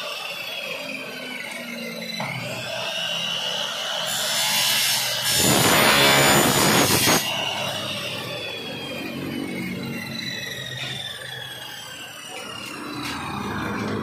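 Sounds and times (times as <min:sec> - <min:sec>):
miter saw cutting metal: 0:00.0 - 0:14.0.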